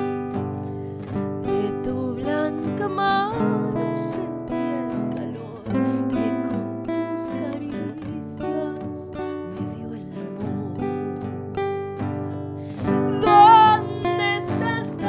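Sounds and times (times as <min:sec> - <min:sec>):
acoustic guitar: 0:00.0 - 0:15.0
woman singing: 0:01.2 - 0:15.0.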